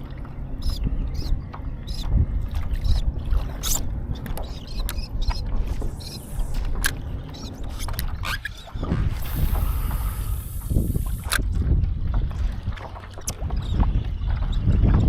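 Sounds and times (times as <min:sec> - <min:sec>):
water splashing against kayak hull: 0:00.0 - 0:15.0
wind on microphone: 0:00.0 - 0:15.0.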